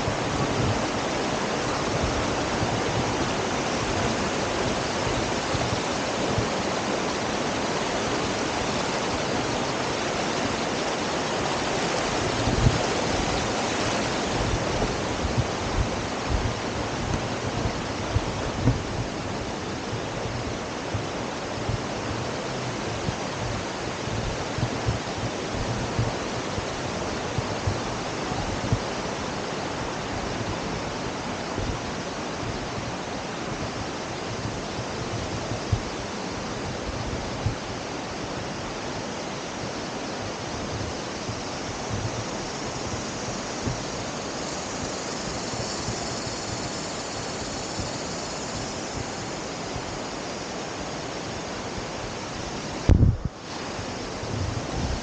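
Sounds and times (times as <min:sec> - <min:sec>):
wind buffeting microphone: 0:00.0 - 0:50.1, 0:50.8 - 0:55.0
river running over rocks: 0:00.0 - 0:55.0.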